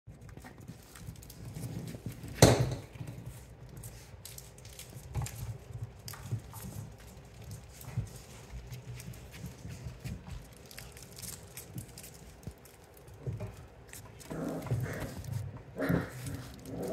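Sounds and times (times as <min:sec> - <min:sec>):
puppies scuffling on wooden floor: 0:00.1 - 0:16.9.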